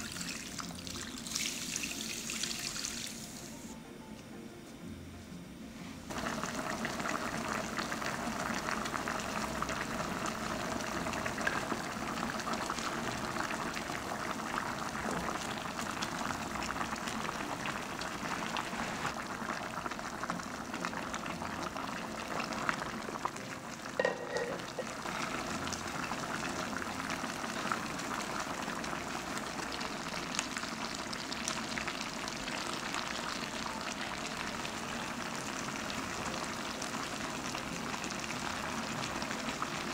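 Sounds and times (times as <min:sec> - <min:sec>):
sauce bubbling and crackling: 0:06.1 - 0:39.9.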